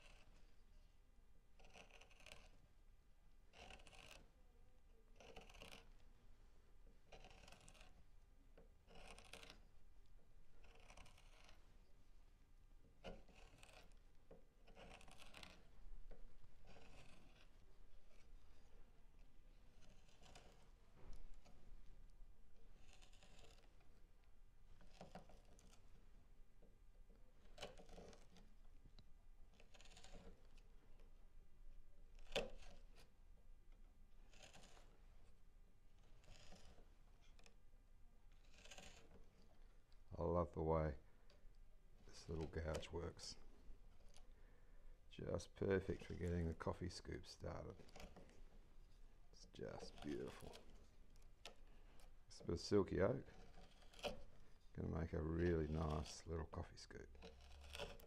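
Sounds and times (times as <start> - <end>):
gouge scraping wood: 0.0 - 0.7, 1.6 - 2.7, 3.5 - 4.4, 5.2 - 6.0, 6.8 - 12.0, 12.8 - 28.6, 29.4 - 31.2, 32.0 - 33.2, 34.2 - 37.6, 38.3 - 41.4, 42.0 - 58.0.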